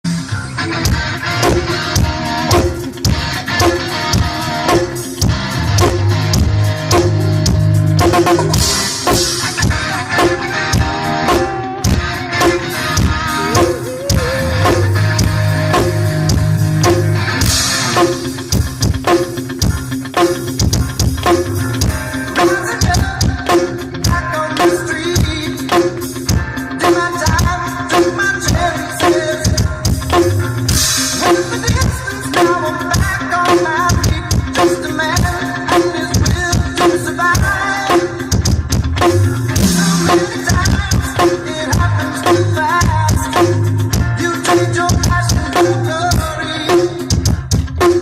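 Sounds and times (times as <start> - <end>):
backing music: 0.0 - 48.0
electronic drum kit rock groove: 0.0 - 48.0.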